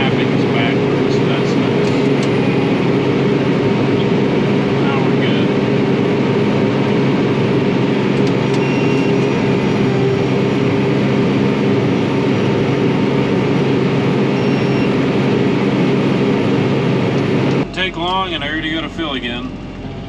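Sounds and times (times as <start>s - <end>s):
engine droning: 0.0s - 20.0s.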